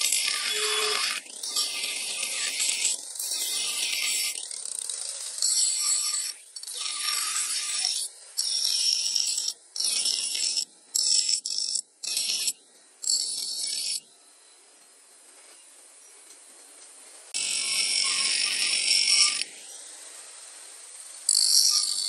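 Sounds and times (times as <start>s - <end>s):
grinder wheel grinding metal: 0.0s - 14.1s, 17.3s - 19.9s, 21.0s - 22.0s.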